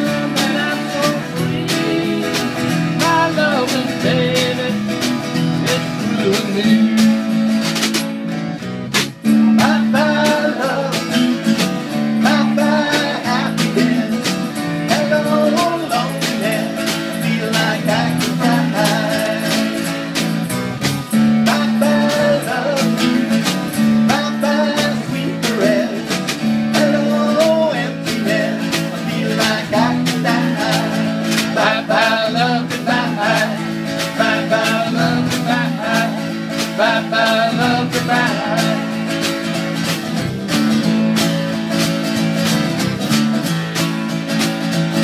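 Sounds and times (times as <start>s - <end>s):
drum kit beat: 0.0s - 45.0s
electric guitar: 0.0s - 45.0s
strummed acoustic guitars: 0.0s - 45.0s.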